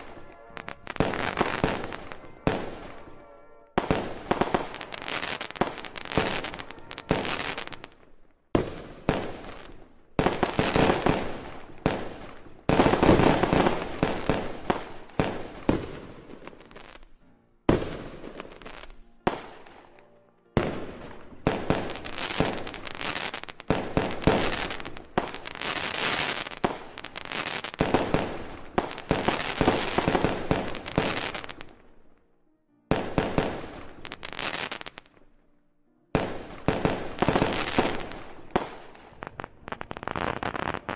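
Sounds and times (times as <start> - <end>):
fireworks bursting: 0.0 - 17.0, 20.6 - 31.8, 32.9 - 35.1, 36.2 - 40.9
fireworks crackling: 0.0 - 17.0, 21.5 - 31.8, 33.2 - 35.1, 36.3 - 40.9.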